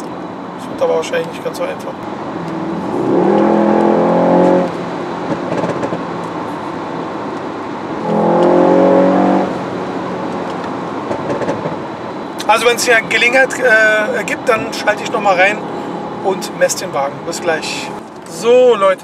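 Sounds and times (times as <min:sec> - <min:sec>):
road and tyre noise: 0:00.0 - 0:19.0
car engine droning under throttle: 0:01.8 - 0:18.3.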